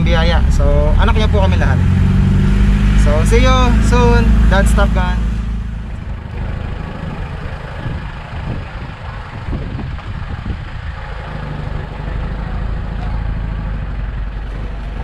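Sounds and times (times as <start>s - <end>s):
engine running low rumble: 0.0s - 15.0s.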